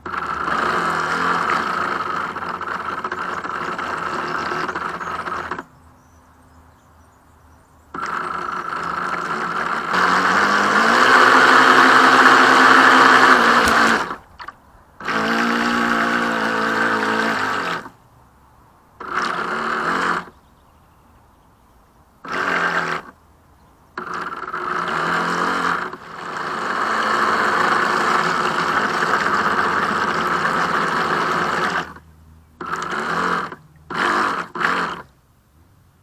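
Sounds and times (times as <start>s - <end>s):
rc speedboat motor bursts: 0.0s - 6.2s, 7.9s - 18.0s, 19.0s - 20.4s, 22.2s - 23.2s, 23.9s - 35.2s.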